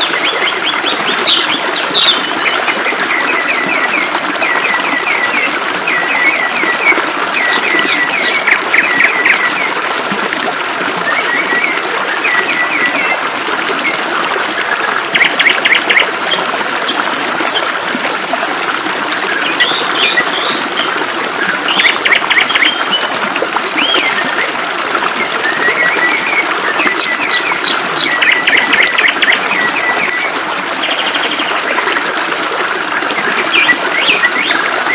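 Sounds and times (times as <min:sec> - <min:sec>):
birds chirping and trilling: 0:00.0 - 0:10.0, 0:11.2 - 0:17.7, 0:19.3 - 0:23.1, 0:23.8 - 0:31.5.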